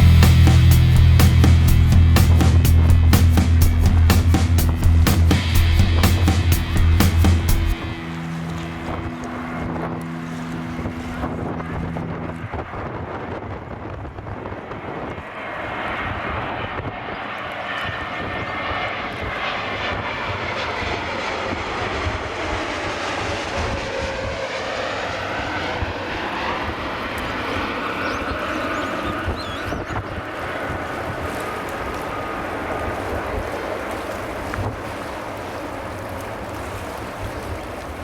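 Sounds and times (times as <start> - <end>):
jet airliner engine roar: 0.0 - 38.0
wind buffeting microphone: 0.0 - 38.0.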